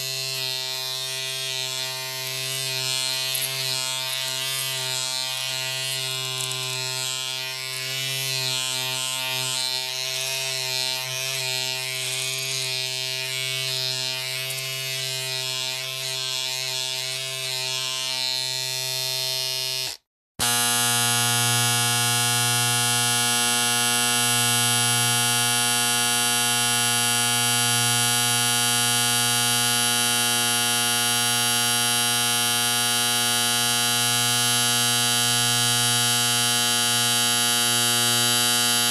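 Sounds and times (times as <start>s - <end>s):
small appliance motor buzzing: 0.0s - 38.9s.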